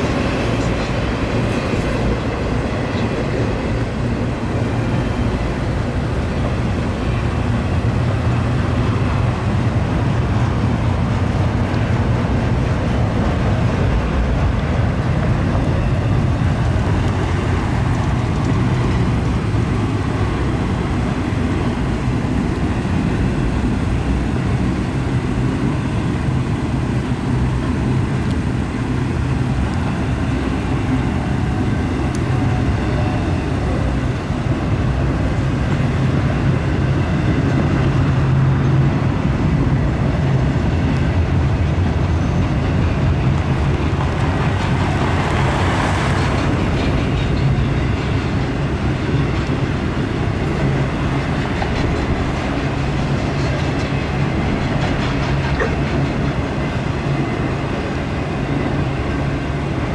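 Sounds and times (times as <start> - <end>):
freight train rumbling: 0.0 - 59.9
train crossing steel bridge: 0.0 - 59.9.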